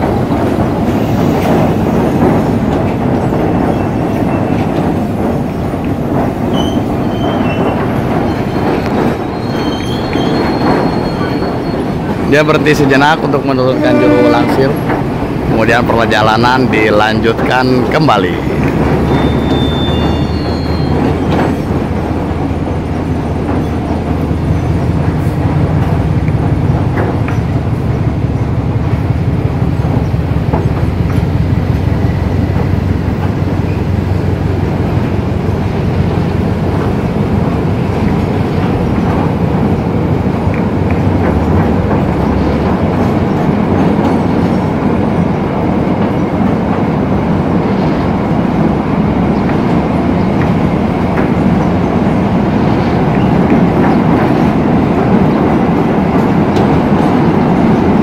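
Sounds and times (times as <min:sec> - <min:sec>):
train wheels rumbling on bridge: 0:00.0 - 0:58.0.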